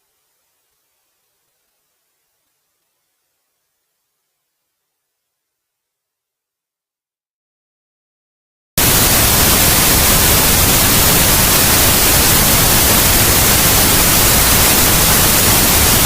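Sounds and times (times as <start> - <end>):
loud static hiss: 0.0 - 6.0, 8.8 - 16.0.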